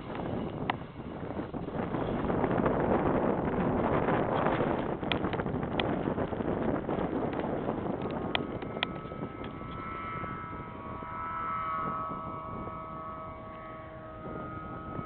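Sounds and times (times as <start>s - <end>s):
distant snowmobile engines whining: 0.0s - 15.0s.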